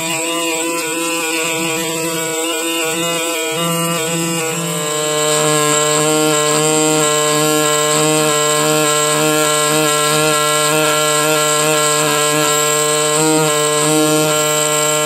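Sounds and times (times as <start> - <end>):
pneumatic air scribe buzzing: 0.0 - 15.0.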